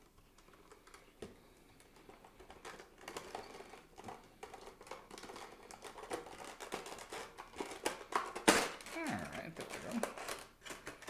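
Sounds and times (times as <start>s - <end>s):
plastic crinkling against cardboard: 0.0s - 11.0s.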